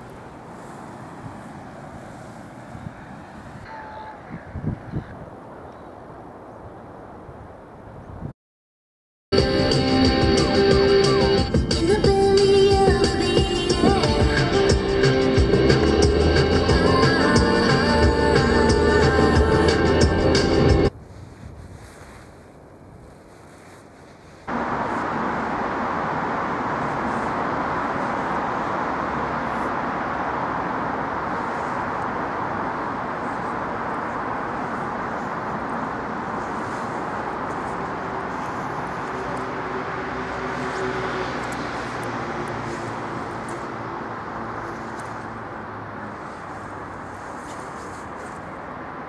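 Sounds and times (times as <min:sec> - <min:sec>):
street background hiss: 0:00.0 - 0:08.3, 0:09.4 - 0:49.0.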